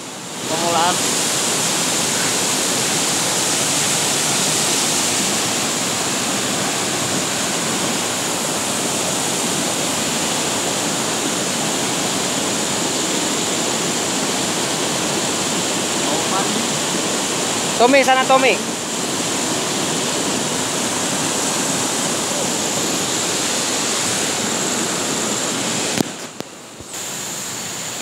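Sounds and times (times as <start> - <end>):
river rushing over boulders: 0.0 - 28.0.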